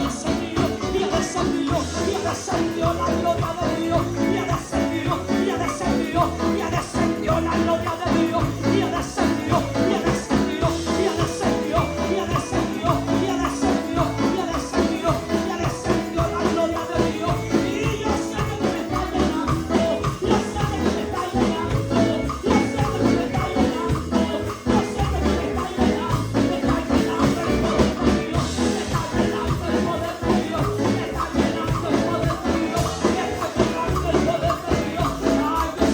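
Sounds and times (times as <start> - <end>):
band with driving beat: 0.0 - 35.9
people singing worship choruses: 0.0 - 35.9
tambourine shaking: 0.0 - 35.9.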